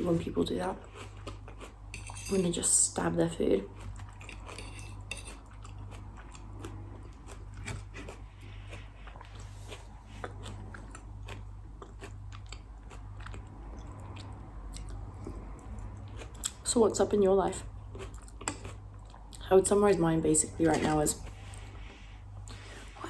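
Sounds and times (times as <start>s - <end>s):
chewing and crunching salad: 0.0s - 23.0s.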